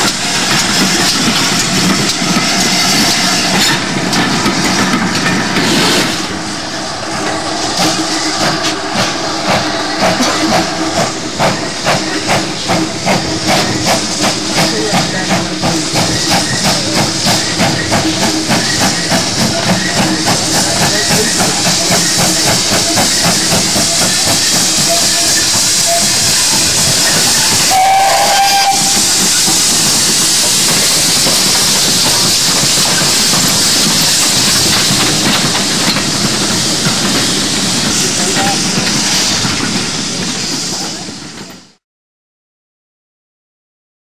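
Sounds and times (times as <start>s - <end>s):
hiss of steam: 0.0s - 41.8s
steam locomotive exhaust beats: 0.0s - 41.8s.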